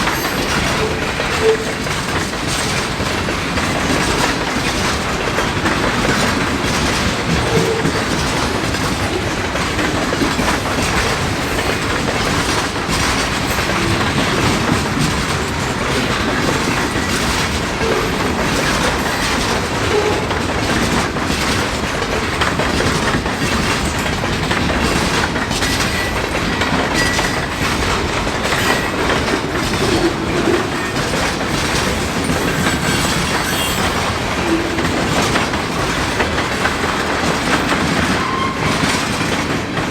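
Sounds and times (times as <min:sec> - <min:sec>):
clickety-clack over rail joints: 0:00.0 - 0:39.9
steel wheels rolling on rail: 0:00.0 - 0:39.9.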